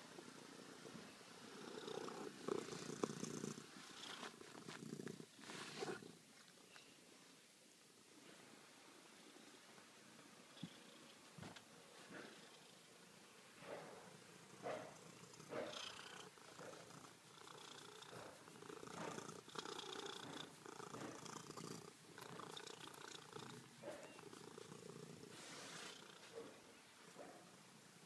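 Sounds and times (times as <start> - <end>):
cat purring: 0.3 - 6.4, 10.2 - 27.8.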